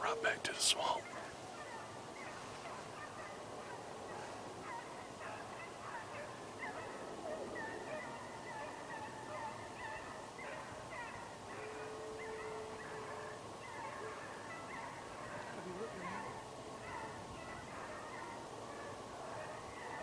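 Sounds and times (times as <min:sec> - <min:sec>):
distant animal calls: 0:00.0 - 0:20.0.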